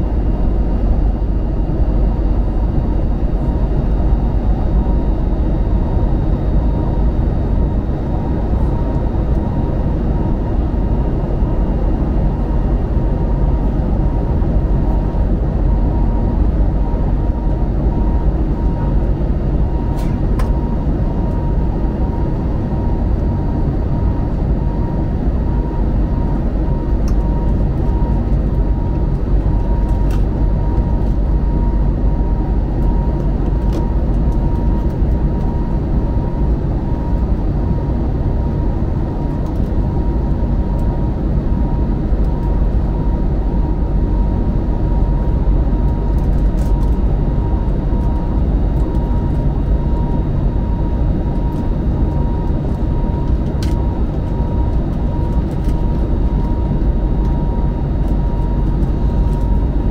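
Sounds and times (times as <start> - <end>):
airliner cabin engine rumble: 0.0 - 59.9
thin steady whine: 0.0 - 59.9.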